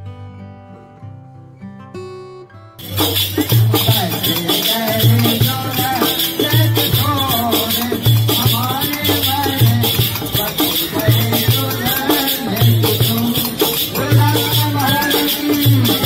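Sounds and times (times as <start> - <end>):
dholak drum beating: 2.8 - 16.0
rattling percussion: 2.8 - 16.0
person singing: 3.0 - 16.0.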